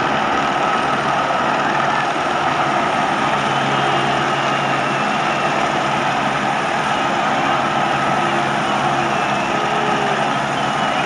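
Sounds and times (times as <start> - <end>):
din of a huge crowd: 0.0 - 11.0
helicopter flying low overhead: 0.0 - 11.0.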